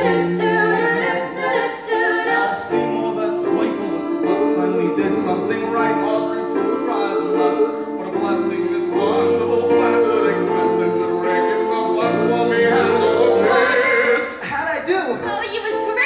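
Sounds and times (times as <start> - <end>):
voices singing together: 0.0 - 14.5
piano accompaniment: 0.0 - 16.0.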